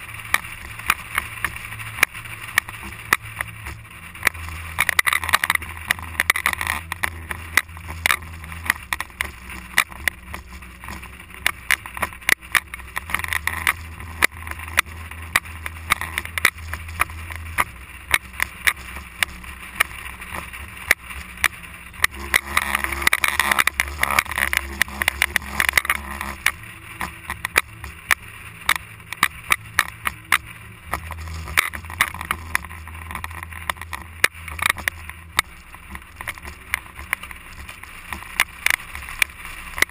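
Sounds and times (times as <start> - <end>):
engine drone: 0.0 - 39.9
sharp clicks and knocks: 0.2 - 39.9.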